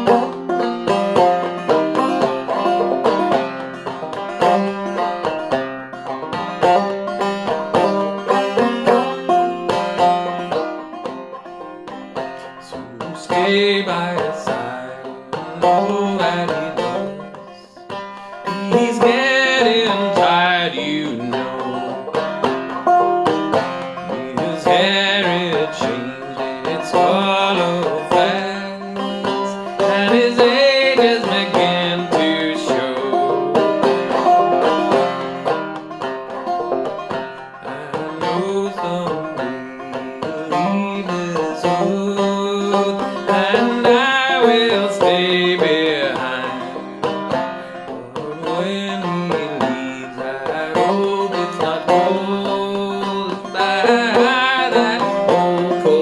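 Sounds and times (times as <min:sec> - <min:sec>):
banjo playing old-time tune: 0:00.0 - 0:56.0.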